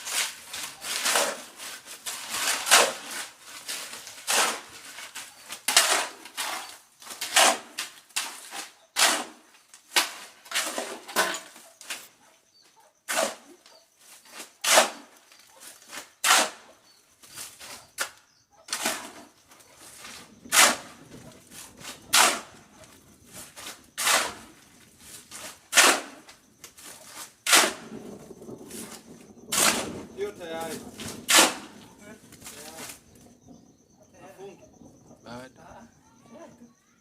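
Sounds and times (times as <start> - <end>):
shovel scraping gravel: 0.0 - 12.1, 13.1 - 33.1.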